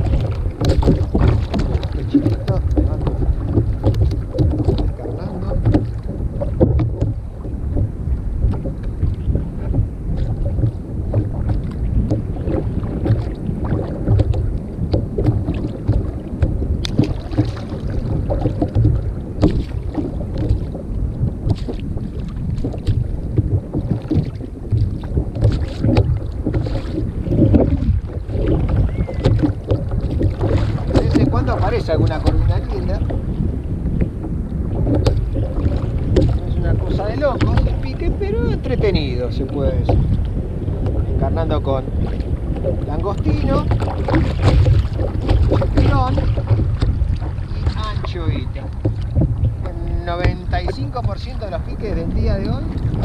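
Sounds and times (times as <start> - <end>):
water lapping against plastic hull: 0.0 - 53.0
wind buffeting microphone: 0.0 - 53.0.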